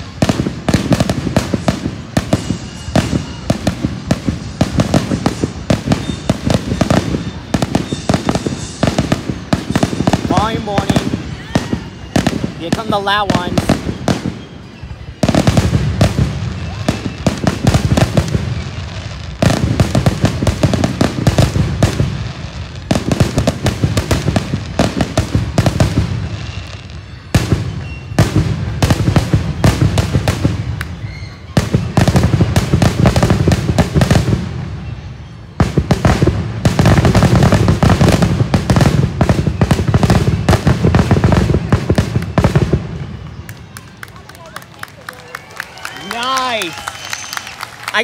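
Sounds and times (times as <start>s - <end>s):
fireworks bursting: 0.0s - 48.0s.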